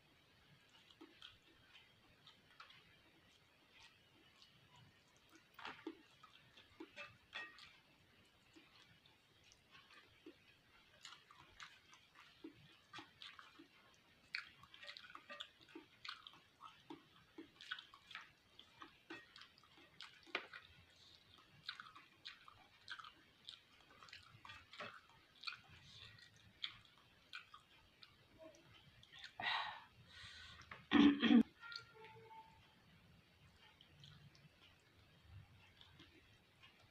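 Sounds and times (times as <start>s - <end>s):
chewing with wet mouth smacks: 0.6s - 29.4s, 33.5s - 36.9s.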